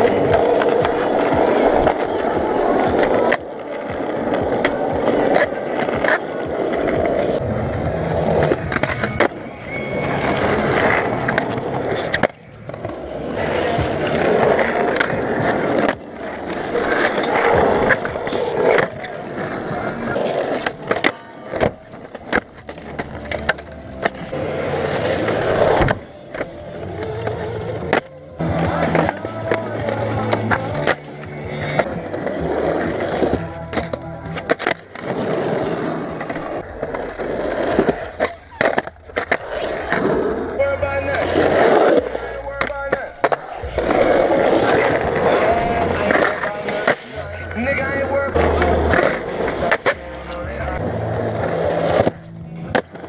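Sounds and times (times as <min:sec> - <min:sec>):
skateboard wheels rolling on concrete: 0:00.0 - 0:53.0
skateboards clacking: 0:00.0 - 0:53.0.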